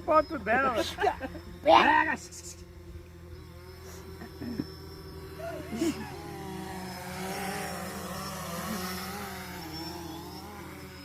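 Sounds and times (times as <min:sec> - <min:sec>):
drone propellers buzzing: 0:00.0 - 0:11.0.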